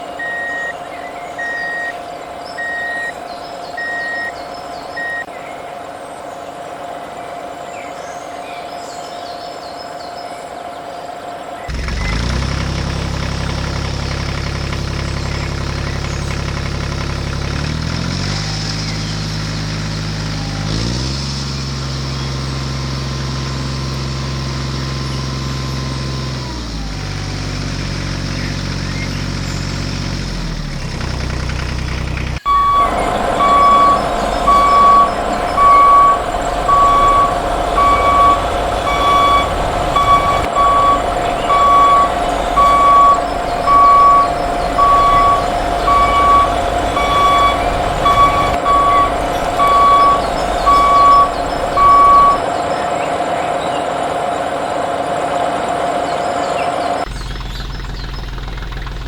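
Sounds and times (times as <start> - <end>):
truck reversing beeper: 0.0 - 5.4, 11.7 - 21.2, 22.0 - 29.4, 32.4 - 58.6
truck engine running: 11.6 - 59.0.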